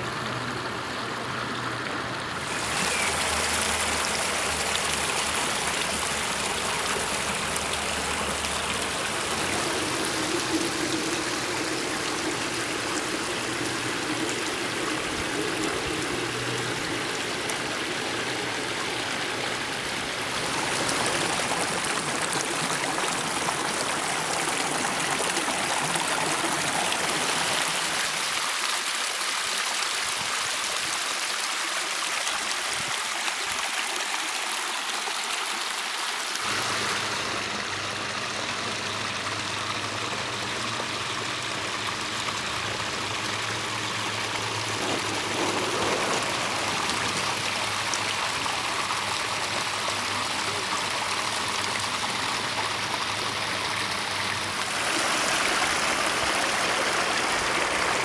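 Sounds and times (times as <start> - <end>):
water splashing down waterfall: 0.0 - 58.0.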